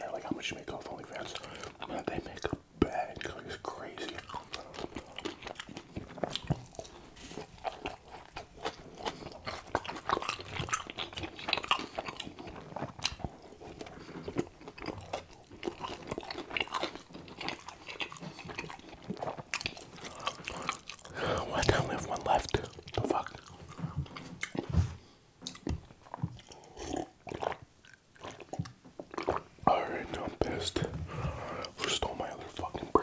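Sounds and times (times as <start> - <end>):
biting and chewing: 0.8 - 24.8, 25.4 - 33.0.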